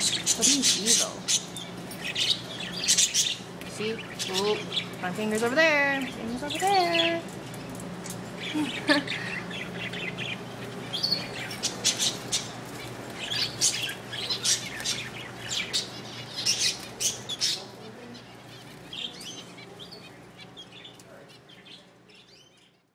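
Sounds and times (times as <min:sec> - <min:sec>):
parakeets chirping: 0:00.0 - 0:22.9.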